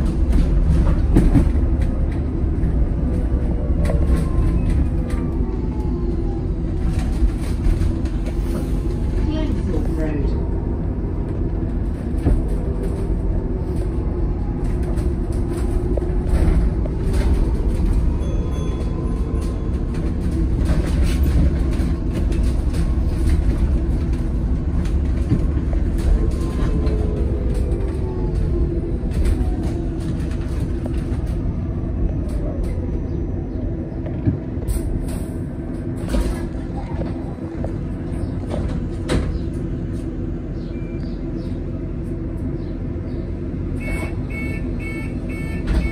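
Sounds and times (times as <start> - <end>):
bus body rattles: 0.0 - 45.9
low road rumble: 0.0 - 45.9.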